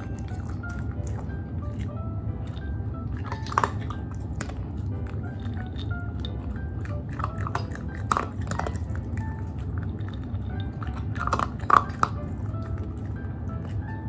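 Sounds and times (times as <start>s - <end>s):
dog crunching dry kibble: 0.0s - 14.0s.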